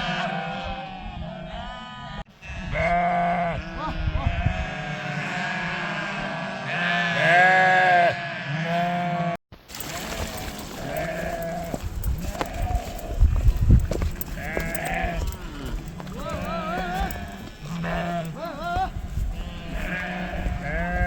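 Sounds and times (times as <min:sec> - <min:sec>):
flock of sheep bleating: 0:00.0 - 0:21.0.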